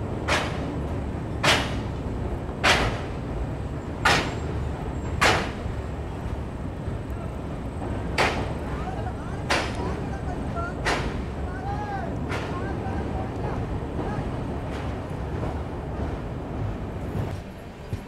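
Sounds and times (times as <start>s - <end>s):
train rumble inside coach: 0.0s - 18.0s.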